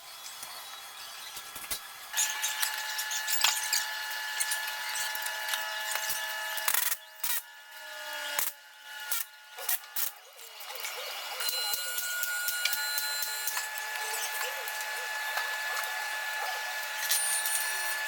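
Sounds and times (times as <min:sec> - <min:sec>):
power drill running: 0:02.1 - 0:18.0.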